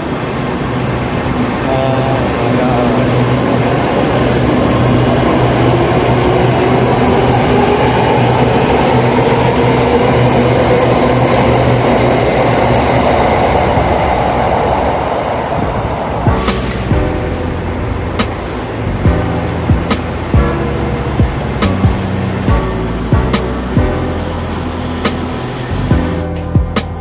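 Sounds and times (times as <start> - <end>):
electric train rumbling: 0.0 - 27.0
train motor whine: 0.0 - 27.0.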